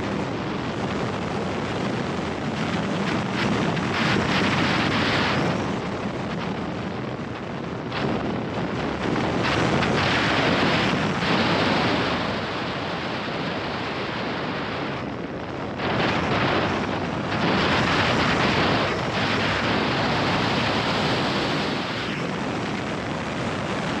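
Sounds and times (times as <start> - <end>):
wind roaring over microphone: 0.0 - 24.0.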